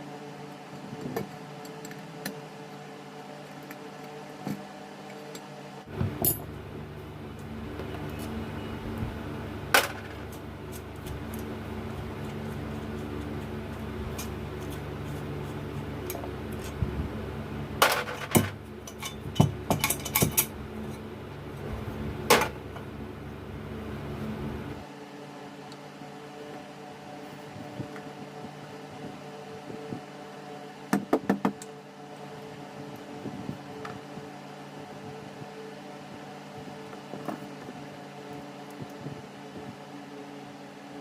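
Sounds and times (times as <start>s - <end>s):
table fan humming: 0.0s - 41.0s.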